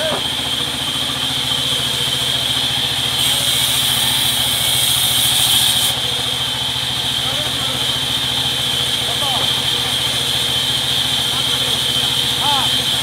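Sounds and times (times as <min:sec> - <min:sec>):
band saw engine thudding: 0:00.0 - 0:13.0
band saw high whine: 0:00.0 - 0:13.0
saw blade cutting plank hiss: 0:00.0 - 0:13.0.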